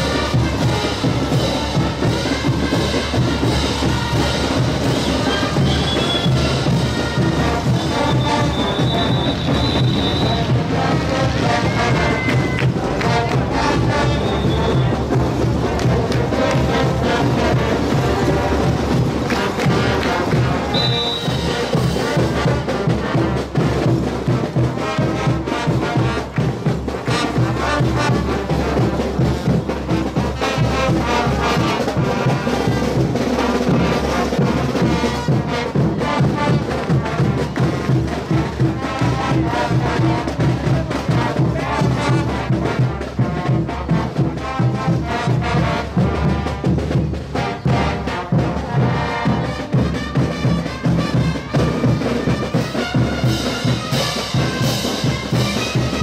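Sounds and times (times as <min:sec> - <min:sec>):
bass drums: 0:00.0 - 0:56.0
brass band playing dance music: 0:00.0 - 0:56.0.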